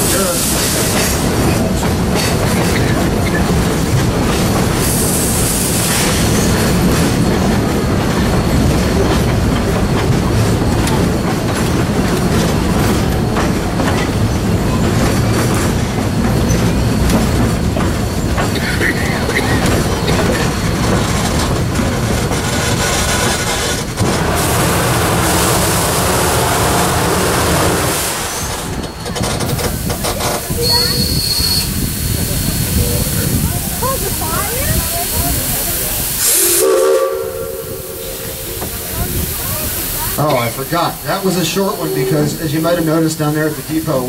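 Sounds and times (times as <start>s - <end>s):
high steam hiss: 0.0s - 14.7s, 22.0s - 44.0s
steam train rumble: 0.0s - 44.0s
train wheels clattering on track: 0.0s - 44.0s.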